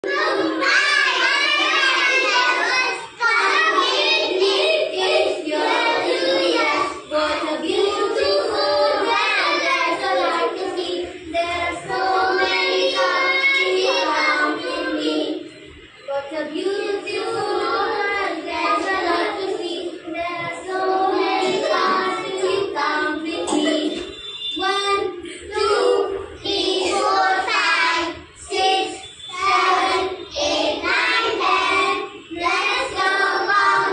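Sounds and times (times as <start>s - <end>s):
children singing: 0.0s - 33.9s.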